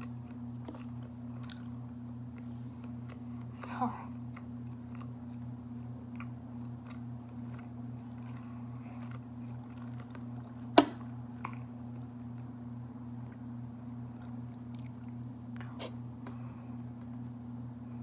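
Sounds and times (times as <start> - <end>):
quiet chewing: 0.0 - 12.6, 14.1 - 17.1
steady low hum: 0.0 - 18.0.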